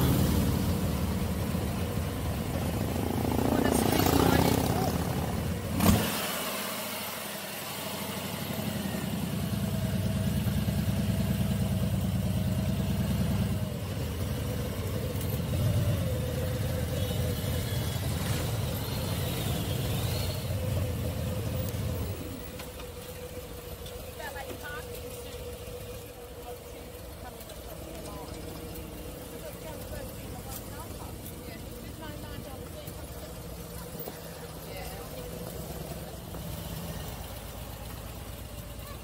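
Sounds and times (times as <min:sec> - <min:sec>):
motorcycle engine idling: 0:00.0 - 0:05.8, 0:07.2 - 0:39.0.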